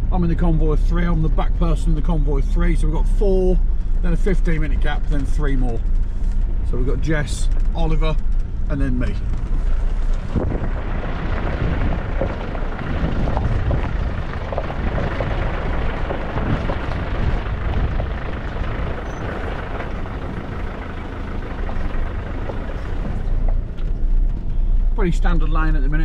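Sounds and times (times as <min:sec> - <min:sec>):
car engine running: 0:00.0 - 0:26.0
tyres on loose gravel: 0:02.6 - 0:26.0
gravel ticks and knocks: 0:04.5 - 0:25.9.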